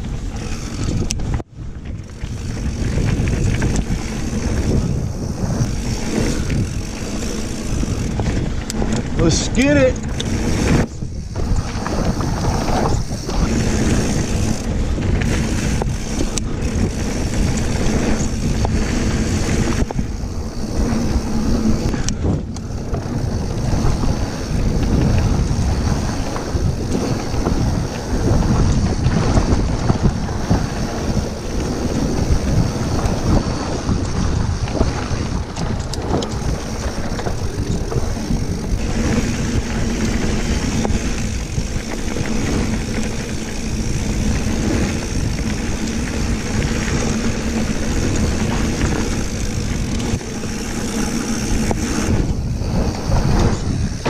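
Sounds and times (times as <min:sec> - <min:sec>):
bike tyres rumbling on dirt: 0:00.0 - 0:54.0
wind buffeting on microphone: 0:00.0 - 0:54.0.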